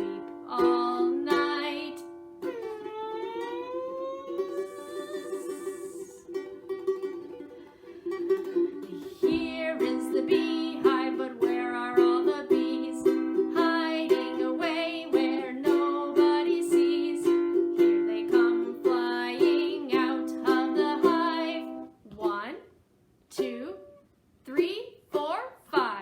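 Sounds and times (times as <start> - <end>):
children's song: 0.0 - 7.7, 8.3 - 22.6, 23.3 - 26.0
strummed string instrument: 0.0 - 21.9.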